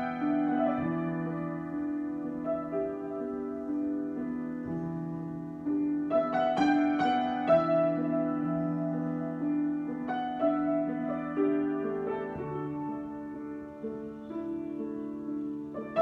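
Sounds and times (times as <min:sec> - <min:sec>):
solo piano chords: 0:00.0 - 0:16.0.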